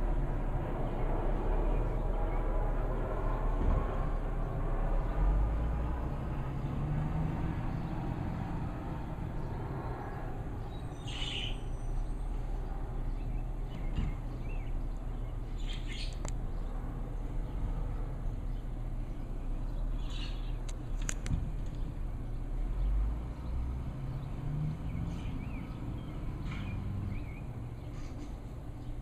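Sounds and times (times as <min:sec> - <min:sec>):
diesel engine low rumble: 0:00.0 - 0:29.0.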